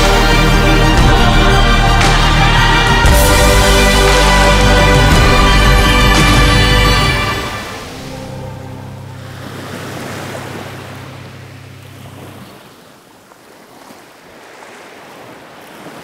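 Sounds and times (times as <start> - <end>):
ocean surf washing in: 0.0 - 16.0.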